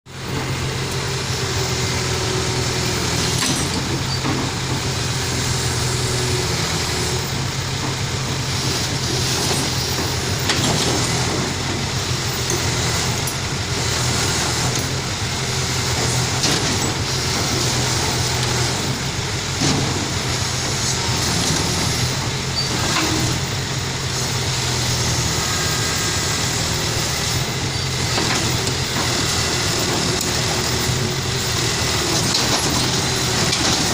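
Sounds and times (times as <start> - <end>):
heavy machinery engine droning: 0.1 - 33.9.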